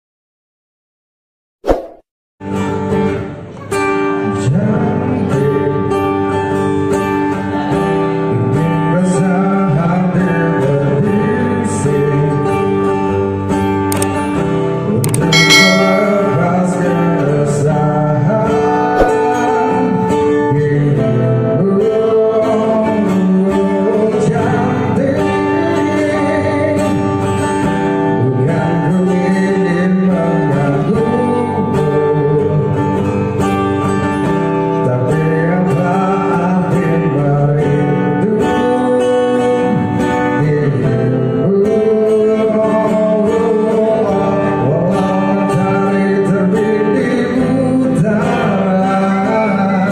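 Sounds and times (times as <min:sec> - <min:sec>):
acoustic guitar: 0:02.4 - 0:49.9
man singing into a microphone: 0:04.1 - 0:13.2, 0:15.6 - 0:33.2, 0:34.7 - 0:49.9.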